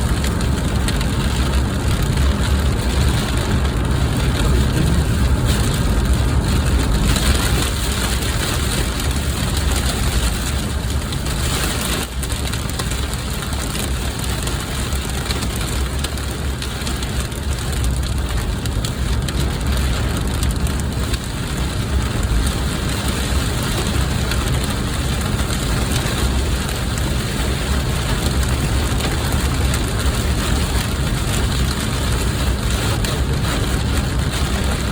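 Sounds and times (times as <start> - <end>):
car low rumble: 0.0 - 34.9
rain falling on a car: 0.0 - 34.9.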